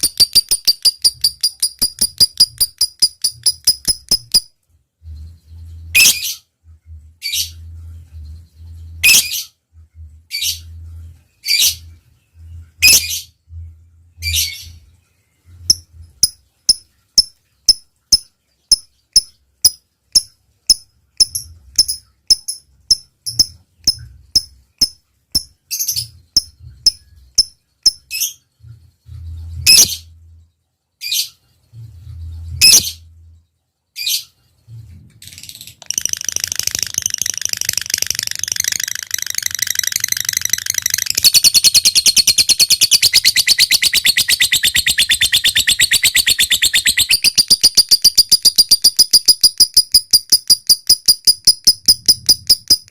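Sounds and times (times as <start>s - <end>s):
lovebird chirping and trilling: 0.0s - 6.5s, 7.2s - 9.6s, 10.3s - 10.8s, 11.4s - 13.4s, 15.6s - 28.5s, 29.1s - 30.2s, 31.0s - 33.1s, 35.3s - 52.9s.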